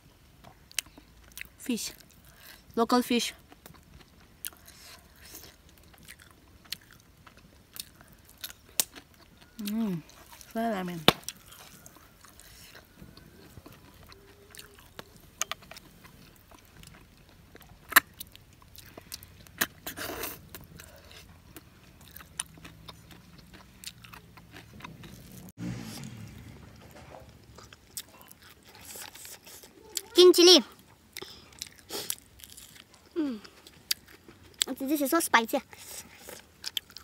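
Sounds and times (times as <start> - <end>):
soft chewing: 0.2 - 37.0.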